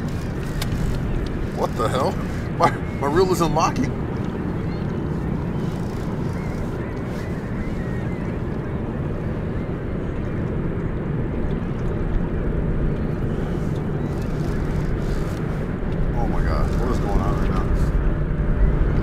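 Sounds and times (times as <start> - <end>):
water lapping against kayak: 0.0 - 18.0
wind buffeting microphone: 0.0 - 19.0.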